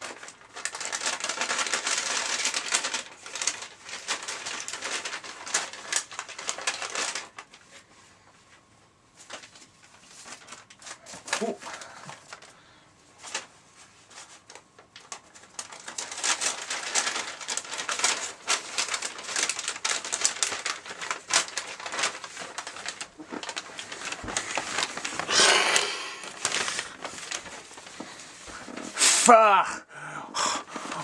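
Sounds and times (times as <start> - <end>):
paper bags rustling and crinkling: 0.0 - 29.5, 30.6 - 31.0.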